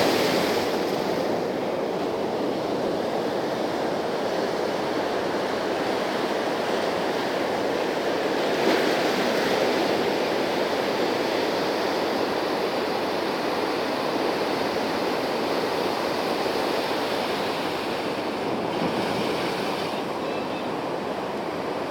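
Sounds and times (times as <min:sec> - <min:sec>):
sea surf washing on shore: 0:00.0 - 0:21.9.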